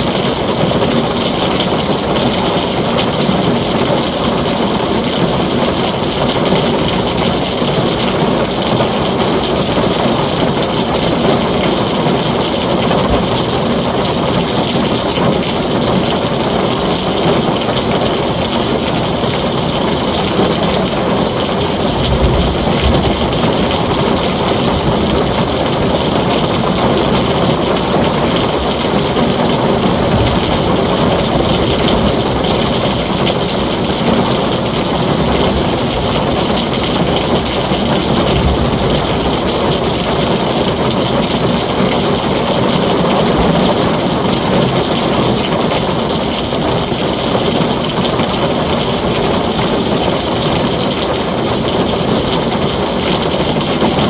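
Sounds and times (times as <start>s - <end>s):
low rumble of thunder: 0.0s - 46.0s
heavy rain on a tin roof: 0.0s - 54.0s.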